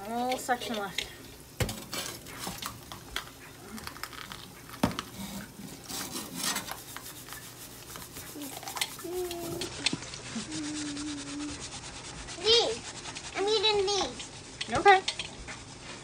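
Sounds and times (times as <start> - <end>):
sponge scrubbing a metal pot: 0.0 - 3.6, 4.5 - 16.0.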